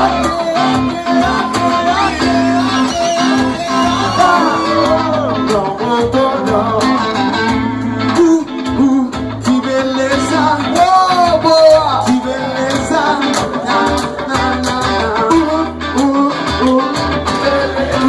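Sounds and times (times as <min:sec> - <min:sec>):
live band with electric guitars: 0:00.0 - 0:18.0
person singing: 0:00.0 - 0:18.0.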